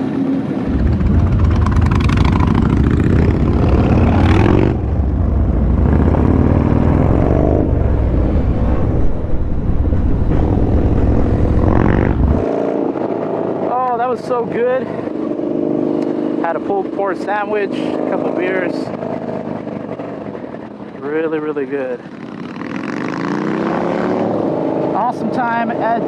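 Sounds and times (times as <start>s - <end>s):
motorcycle engine rumbling: 0.0s - 23.5s.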